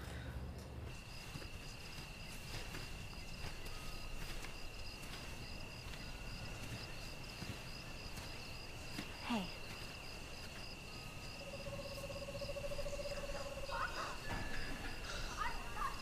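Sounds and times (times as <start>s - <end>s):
soft footsteps on grass: 0.6s - 16.0s
crickets trilling: 0.9s - 16.0s.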